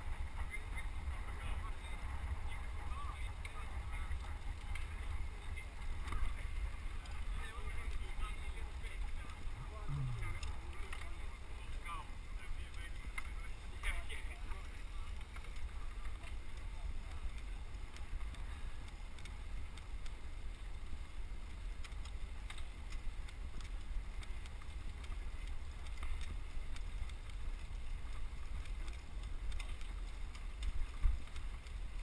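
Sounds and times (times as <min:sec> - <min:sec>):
faint ticks: 0:02.9 - 0:32.0.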